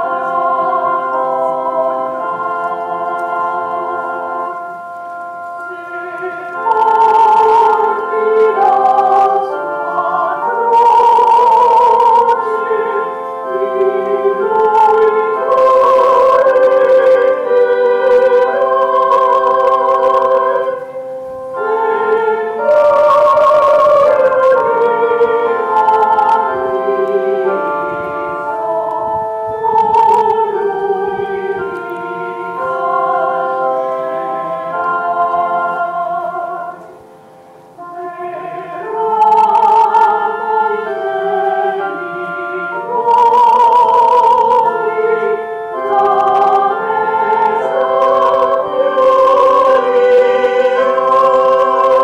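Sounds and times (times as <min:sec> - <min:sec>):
voices singing a hymn: 0:00.0 - 0:52.0.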